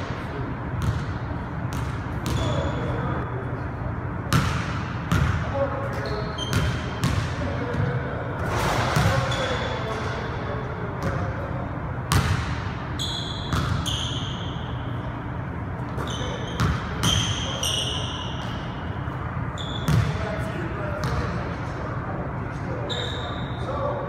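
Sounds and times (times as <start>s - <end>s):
sneaker squeaks: 0.8s - 3.3s, 4.3s - 11.3s, 12.1s - 21.3s, 22.7s - 24.0s.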